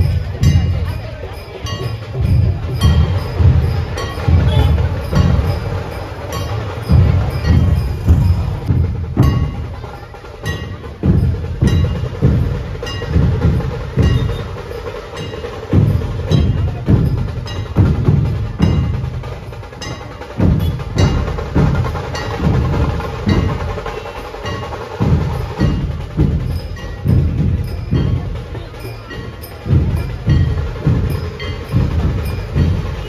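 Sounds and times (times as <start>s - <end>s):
procession drums beating: 0.0s - 33.0s.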